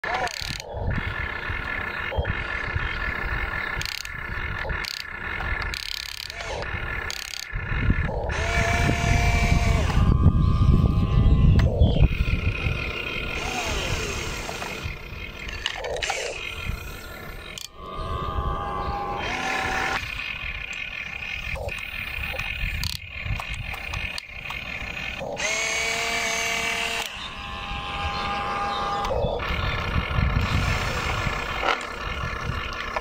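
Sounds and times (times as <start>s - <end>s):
toy excavator motor whine: 0.0s - 33.0s.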